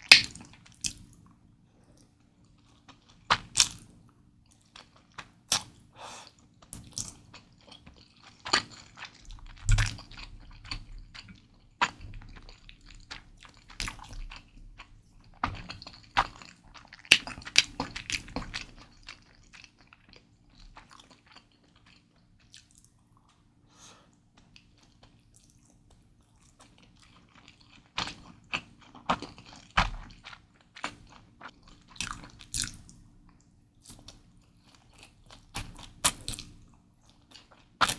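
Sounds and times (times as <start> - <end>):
chewing noodles: 4.5 - 23.4, 24.4 - 37.9.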